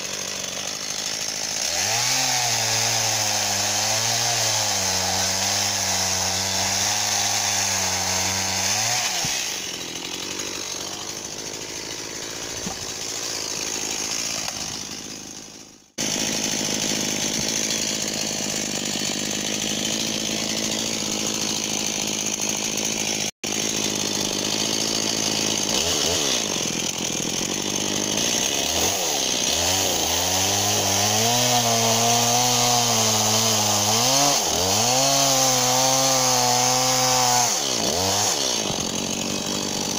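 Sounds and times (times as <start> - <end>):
chainsaw cutting wood: 0.0 - 39.9
chainsaw running: 0.0 - 39.9.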